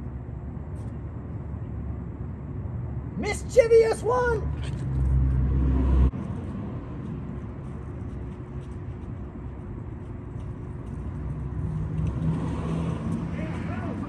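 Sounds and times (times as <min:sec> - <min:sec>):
faint constant hum: 0:00.0 - 0:05.5, 0:06.1 - 0:14.0
motor vehicle rumble: 0:00.0 - 0:14.0.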